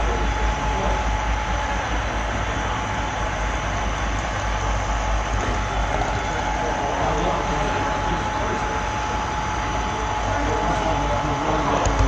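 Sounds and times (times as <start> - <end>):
constant thin whine: 0.0 - 12.0.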